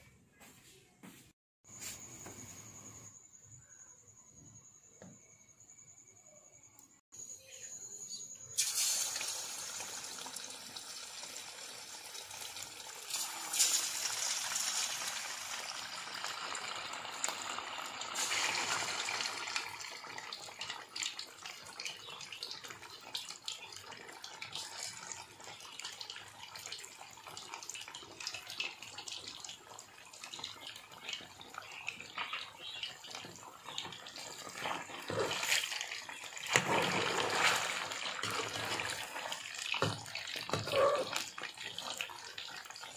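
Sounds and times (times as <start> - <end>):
chicken wings deep-frying in oil: 8.4 - 42.9.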